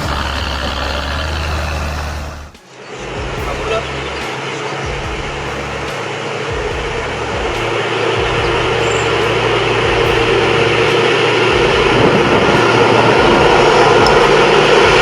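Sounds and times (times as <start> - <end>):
heavy machine running: 0.0 - 15.0.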